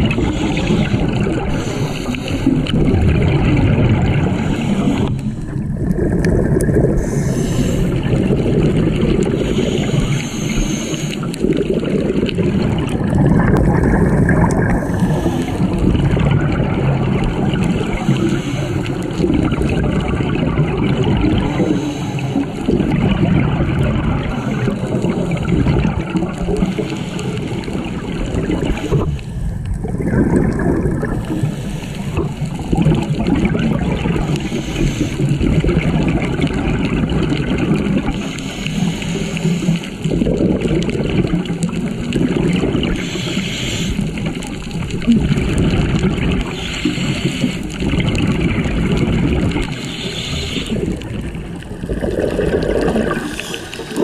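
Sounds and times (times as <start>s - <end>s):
exhaled bubbles gurgling: 0.0s - 54.0s
low rumble of water: 0.0s - 54.0s.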